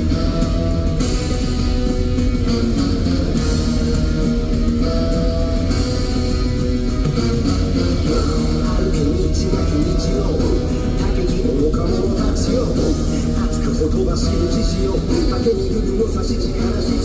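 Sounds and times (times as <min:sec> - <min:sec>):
guitar playing: 0:00.0 - 0:17.0
live band instrumental: 0:00.0 - 0:17.0.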